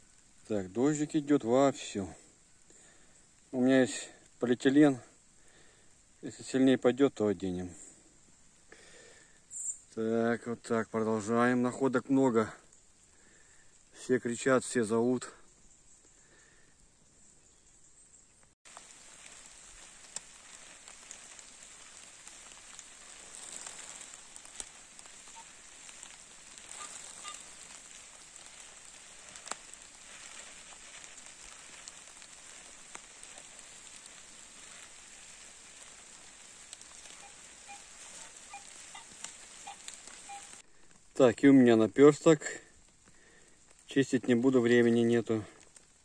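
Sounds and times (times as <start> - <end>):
rain falling in forest: 0.0 - 17.4, 18.4 - 46.0.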